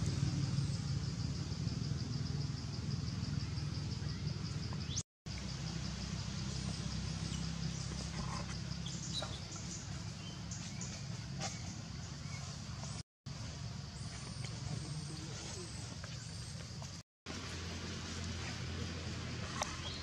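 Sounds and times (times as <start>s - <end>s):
insect chirping: 0.1s - 20.0s.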